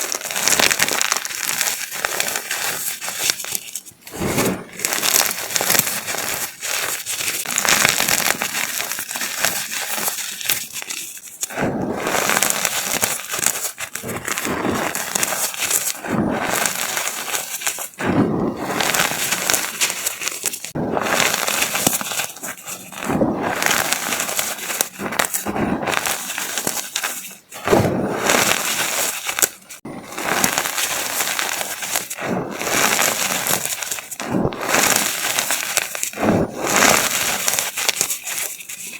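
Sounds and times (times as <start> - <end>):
chalk crushing crunchy crackling: 0.0 - 38.9.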